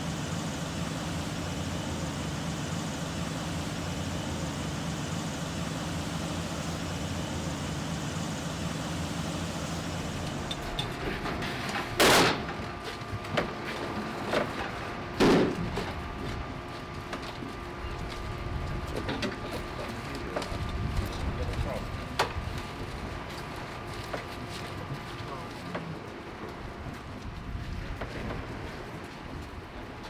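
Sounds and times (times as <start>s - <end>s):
engine drone: 0.0s - 30.0s.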